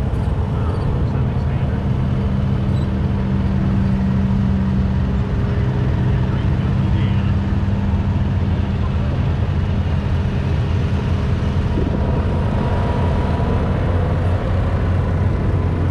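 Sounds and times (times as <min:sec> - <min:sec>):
tyre and road noise: 0:00.0 - 0:15.9
vehicle engine droning: 0:00.0 - 0:15.9.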